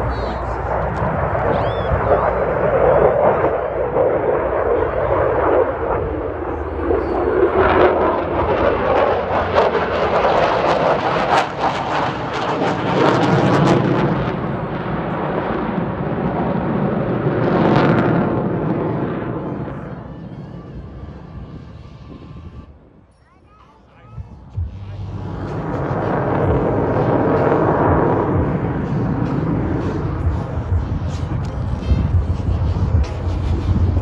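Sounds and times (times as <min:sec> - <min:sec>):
jet flying past: 0:00.0 - 0:23.1, 0:24.2 - 0:34.0.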